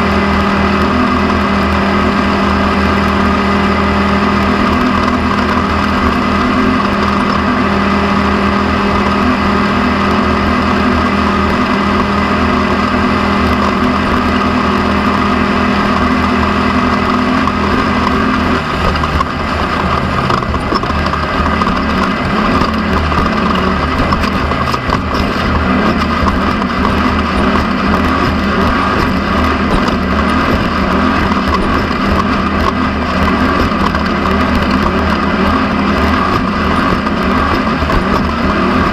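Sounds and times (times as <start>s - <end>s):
race vehicle engine running hard: 0.0s - 38.9s.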